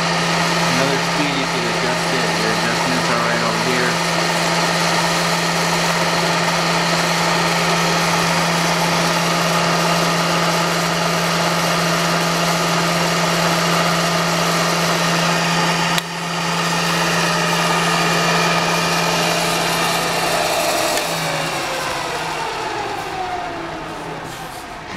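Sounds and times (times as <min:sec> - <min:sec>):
milling machine motor hum: 0:00.0 - 0:24.9.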